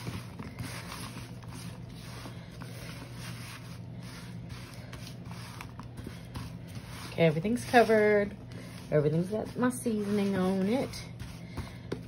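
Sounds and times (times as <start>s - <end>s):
vegetables rustling on metal pan: 0.0s - 11.7s
steady low hum: 0.0s - 12.0s.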